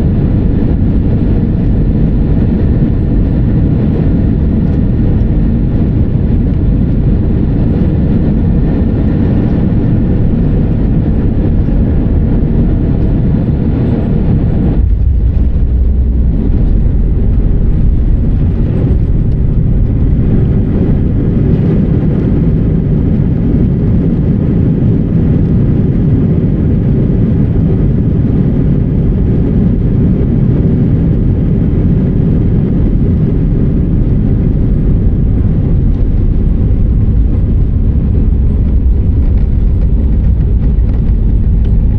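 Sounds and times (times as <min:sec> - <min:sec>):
jet engine cabin rumble: 0:00.0 - 0:41.9.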